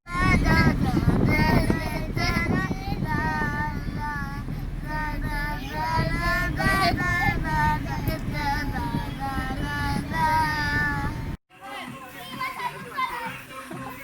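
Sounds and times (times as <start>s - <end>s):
children singing: 0.1s - 11.4s
low background rumble: 0.1s - 11.4s.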